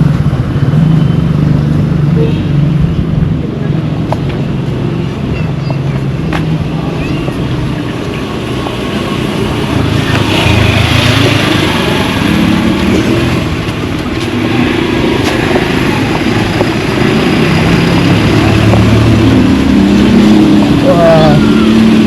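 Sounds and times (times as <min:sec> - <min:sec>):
street noise: 0:00.0 - 0:22.0
vehicle engine humming: 0:00.0 - 0:22.0.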